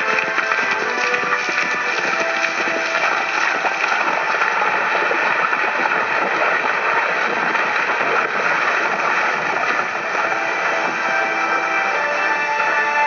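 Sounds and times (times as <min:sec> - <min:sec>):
horses galloping through water: 0:00.0 - 0:13.0
water splashing: 0:00.0 - 0:13.0.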